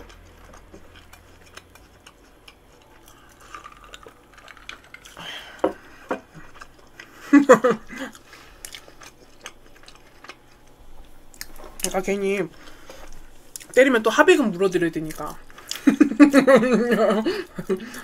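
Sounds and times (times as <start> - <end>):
person chewing crisp food: 0.0 - 13.8, 15.0 - 16.0.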